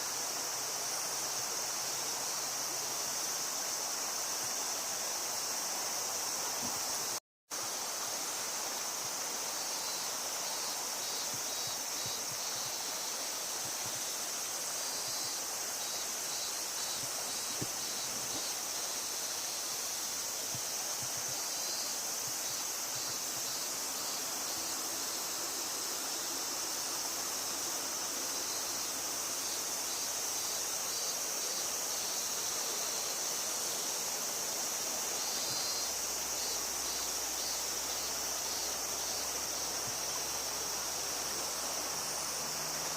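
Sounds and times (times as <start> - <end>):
flowing river water: 0.0 - 42.9.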